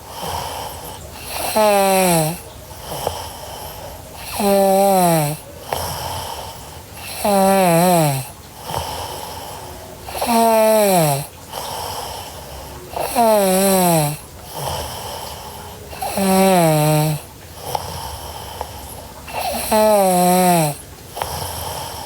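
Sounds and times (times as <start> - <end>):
breathy in-breaths: 0.0 - 7.4, 8.2 - 10.4, 11.3 - 13.3, 14.2 - 16.4, 17.2 - 22.0
girl snoring: 0.0 - 18.7, 19.3 - 22.0.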